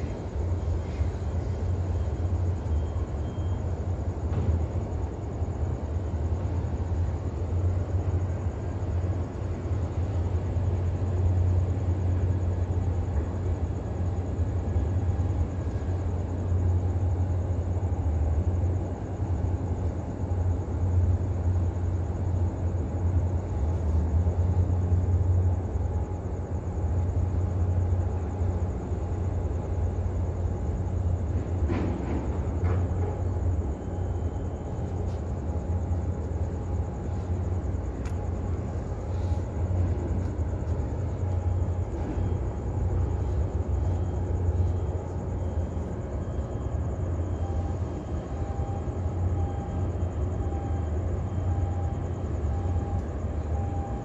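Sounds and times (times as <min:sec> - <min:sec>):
faint hum: 0:00.0 - 0:54.0
ship engines rumbling: 0:00.0 - 0:54.0.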